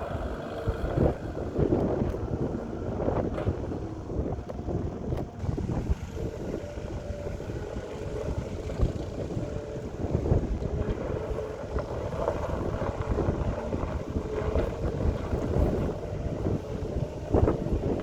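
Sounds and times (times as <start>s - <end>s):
diesel engine running: 0.0s - 18.0s
wind buffeting microphone: 0.0s - 18.0s.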